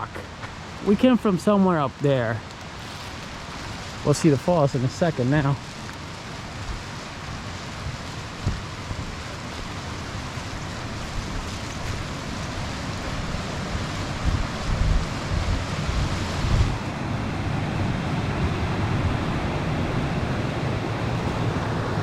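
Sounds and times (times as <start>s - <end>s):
waterfall rushing: 0.0s - 22.0s
wind gusts on microphone: 0.0s - 22.0s.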